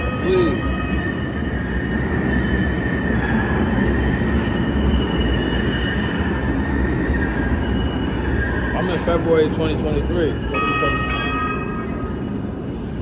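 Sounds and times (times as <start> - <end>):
high wheel squeal: 0.0 - 13.0
rumble of wheels on rail: 0.0 - 13.0.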